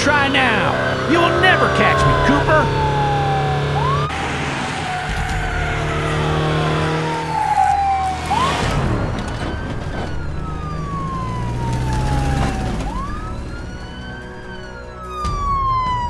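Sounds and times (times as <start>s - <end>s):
engine hum: 0.0s - 16.0s
police siren wailing: 0.0s - 16.0s.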